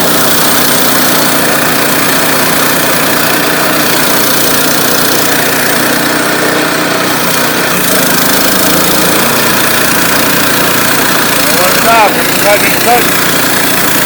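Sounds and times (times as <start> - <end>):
sawmill blade cutting log: 0.0 - 14.0.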